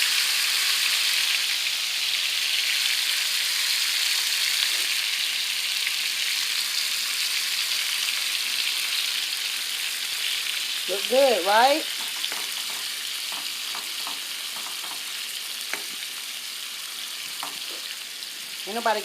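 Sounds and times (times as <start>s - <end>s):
shrimp sizzling in a pan: 0.0s - 19.0s.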